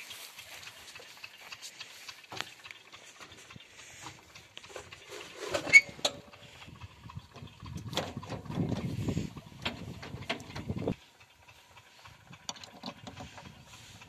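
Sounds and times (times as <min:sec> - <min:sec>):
clicks and knocks on tractor controls: 0:00.0 - 0:14.0.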